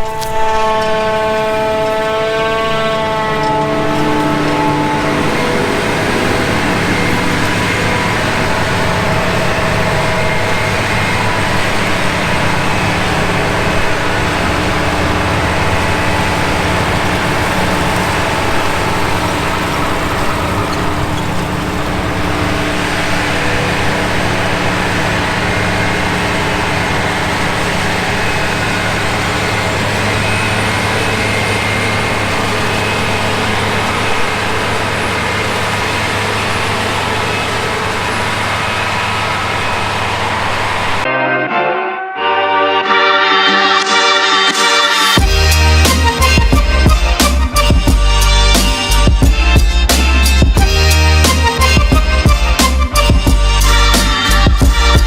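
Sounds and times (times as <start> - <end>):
forage harvester running: 0.0 - 41.1, 44.5 - 55.0.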